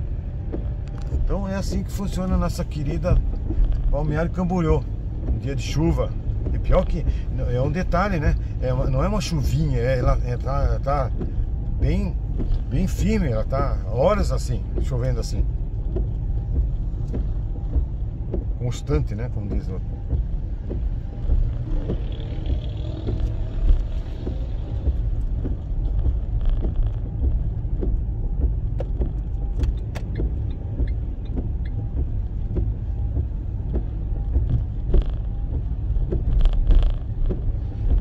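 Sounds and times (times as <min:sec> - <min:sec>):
car engine rumble: 0:00.0 - 0:38.0
tyres on wet road: 0:00.0 - 0:38.0.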